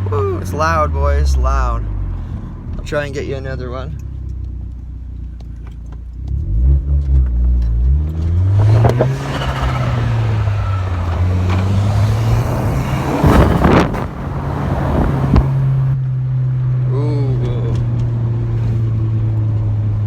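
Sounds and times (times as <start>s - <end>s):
car engine idling and accelerating: 0.0s - 20.0s.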